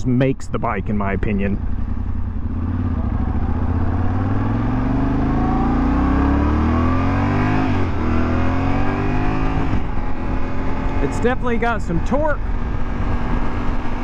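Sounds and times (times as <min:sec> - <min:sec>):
motorcycle engine accelerating: 0:00.6 - 0:14.0.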